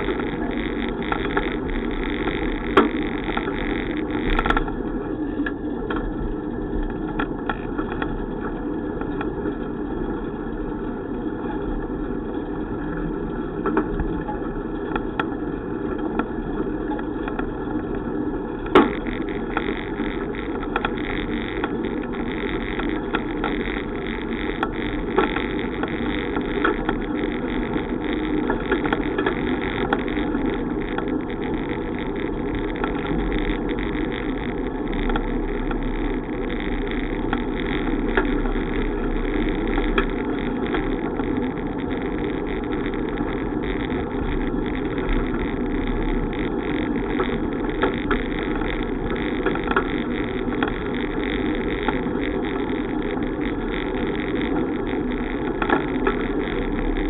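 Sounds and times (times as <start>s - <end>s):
bicycle road and wind noise: 0.0s - 57.0s.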